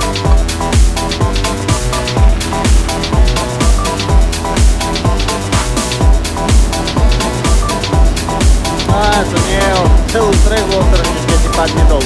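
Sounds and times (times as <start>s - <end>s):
electronic dance music: 0.0s - 12.0s
held synth chords: 0.0s - 12.0s
kick drum beat: 0.0s - 12.0s.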